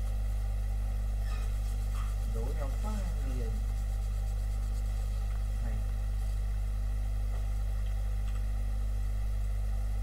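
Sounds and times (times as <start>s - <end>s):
mains hum: 0.0s - 10.0s.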